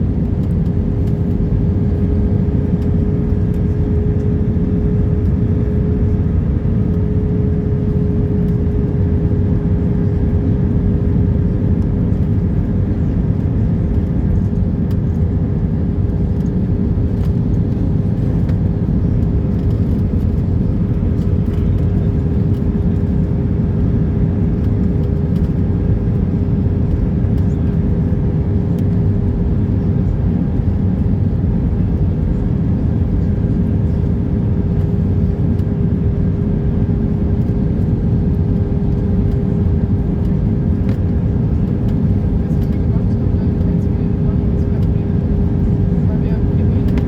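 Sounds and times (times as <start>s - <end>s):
airplane cabin noise: 0.0s - 47.0s.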